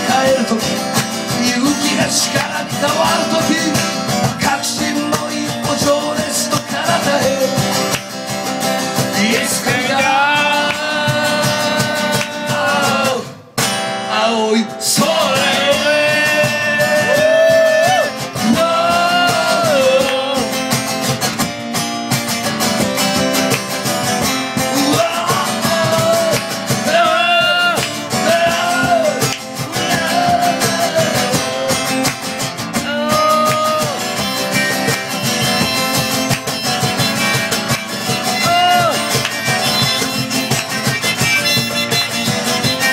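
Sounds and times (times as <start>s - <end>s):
strummed acoustic guitar: 0.0s - 42.9s.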